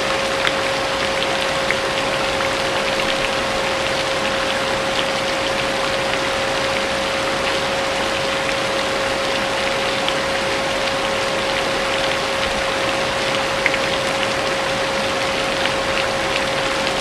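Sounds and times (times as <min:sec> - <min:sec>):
rain falling: 0:00.0 - 0:17.0
ticks of raindrops: 0:00.0 - 0:17.0.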